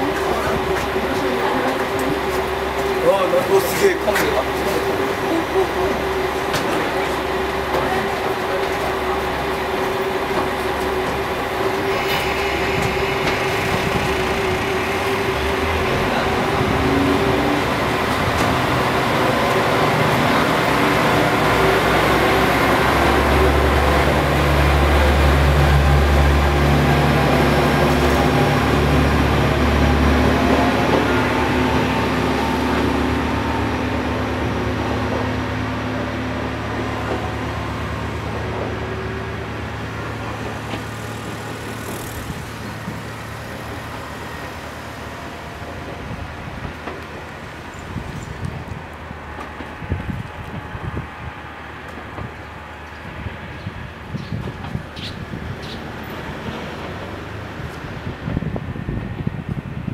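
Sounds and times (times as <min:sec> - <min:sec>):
diesel railcar engine droning: 0:00.0 - 0:59.9.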